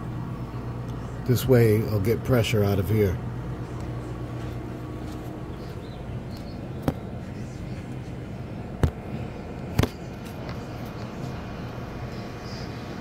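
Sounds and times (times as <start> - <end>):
refrigeration hum: 0.0 - 13.0.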